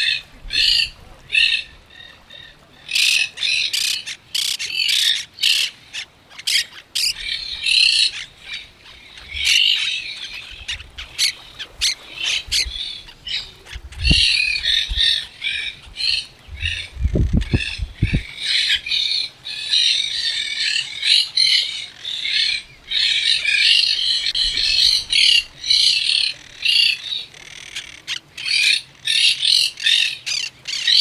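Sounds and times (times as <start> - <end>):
birds calling: 0.0 - 31.0
parrots squawking: 0.0 - 31.0.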